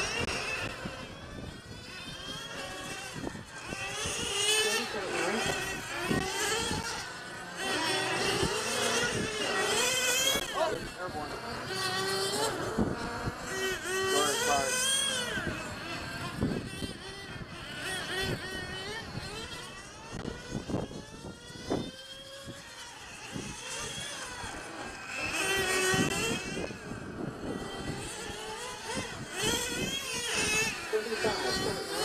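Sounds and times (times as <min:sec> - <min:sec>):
rc car engines running: 0:00.0 - 0:32.0.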